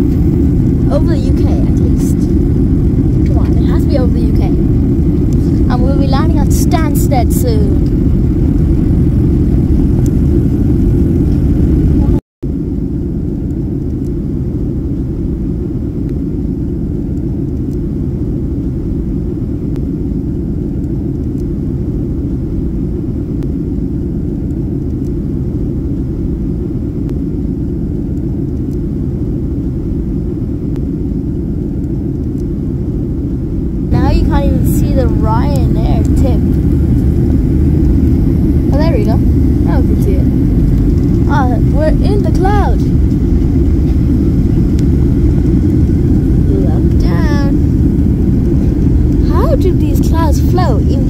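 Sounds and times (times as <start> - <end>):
jet engine and airflow rumble: 0.0 - 51.0.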